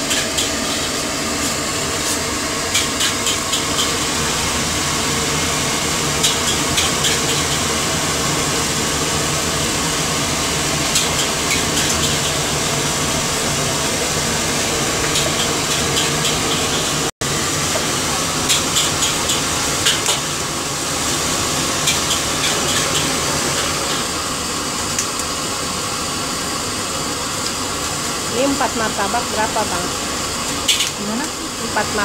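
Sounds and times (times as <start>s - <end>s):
frying hiss on griddle: 0.0s - 32.0s.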